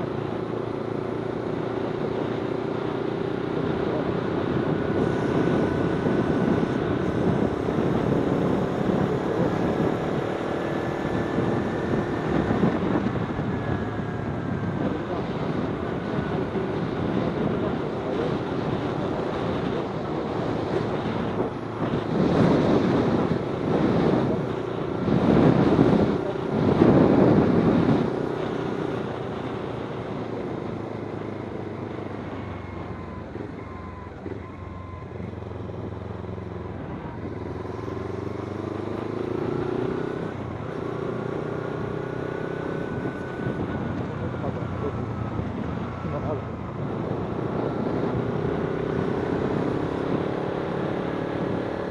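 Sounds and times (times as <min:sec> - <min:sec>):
wind rushing over microphone: 0:01.8 - 0:34.2, 0:35.8 - 0:51.9.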